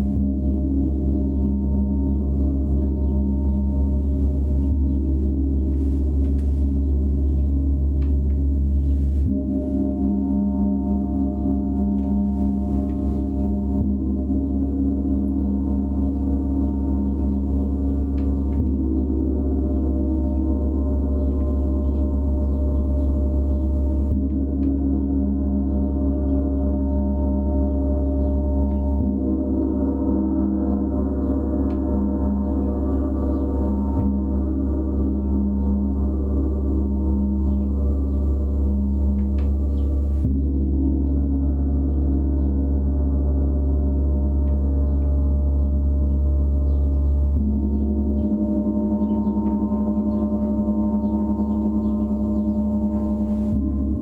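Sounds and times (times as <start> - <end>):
gong humming tones: 9.3 - 54.0.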